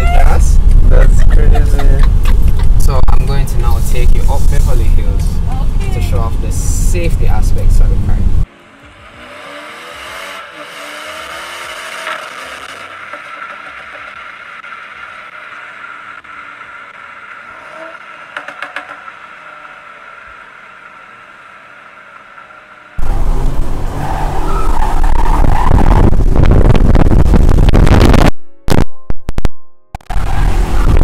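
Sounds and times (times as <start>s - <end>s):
road noise: 0.0s - 28.3s, 30.0s - 31.0s
car engine running: 0.4s - 28.1s.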